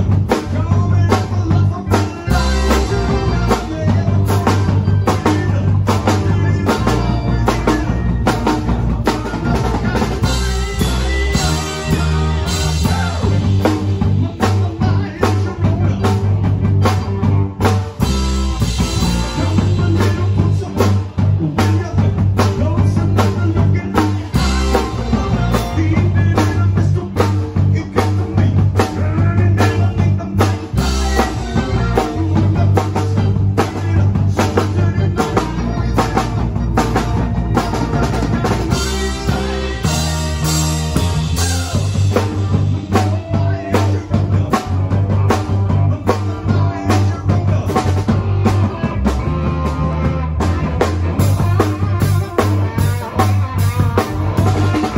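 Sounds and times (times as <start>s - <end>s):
drum kit: 0.0s - 54.9s
electric bass line: 0.0s - 54.9s
electric guitar: 0.0s - 54.9s.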